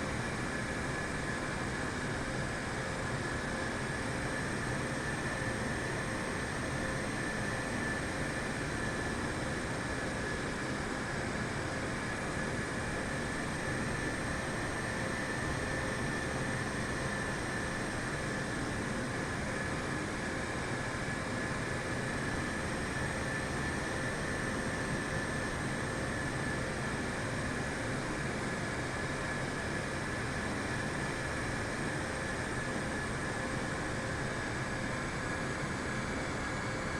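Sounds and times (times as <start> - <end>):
faint jet whine: 0.0 - 36.9.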